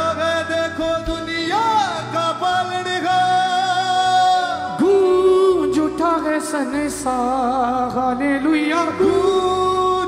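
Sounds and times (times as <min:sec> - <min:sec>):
band with harmonium and keyboard: 0:00.0 - 0:10.0.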